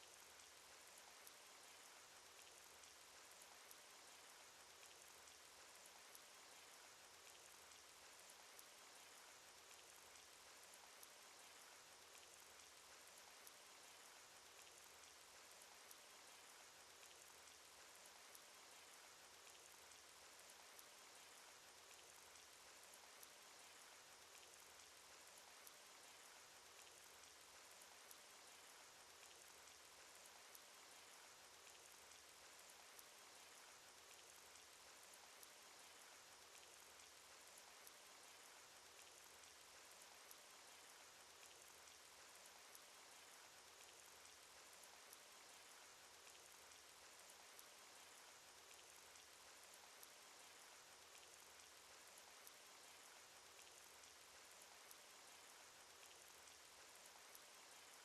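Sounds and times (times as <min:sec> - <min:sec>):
cartoon rain patter: 0:00.0 - 0:58.0.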